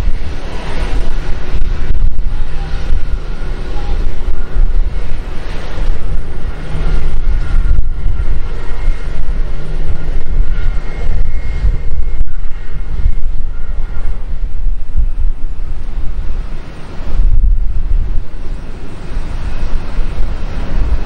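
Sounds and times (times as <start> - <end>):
faint high whine: 0.0 - 21.0
jet engine rumble: 0.0 - 21.0.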